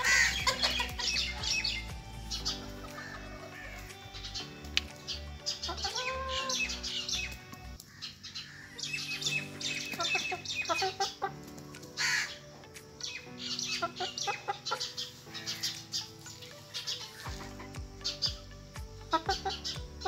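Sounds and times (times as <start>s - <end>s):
background music: 0.0s - 20.0s
chickens chirping: 0.0s - 20.0s.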